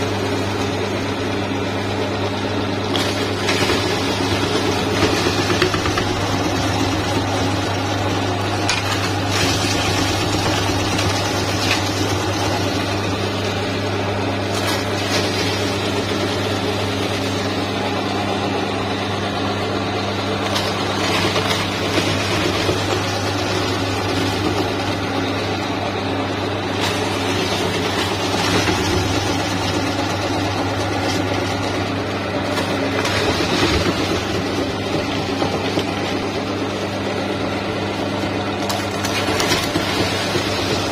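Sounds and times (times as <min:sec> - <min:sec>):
meat grinder motor humming: 0:00.0 - 0:40.9.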